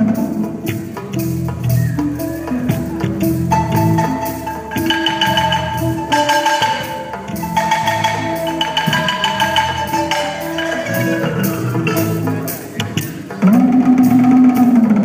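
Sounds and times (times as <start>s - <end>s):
wooden xylophone melody: 0.0s - 15.0s.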